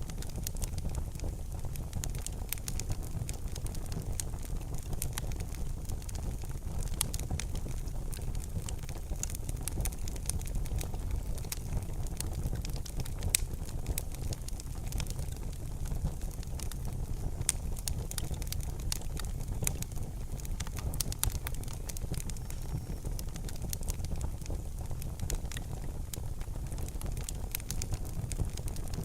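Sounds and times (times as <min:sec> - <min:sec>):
fire crackles and pops: 0:00.0 - 0:29.0
fire rumbling in fireplace: 0:00.0 - 0:29.0.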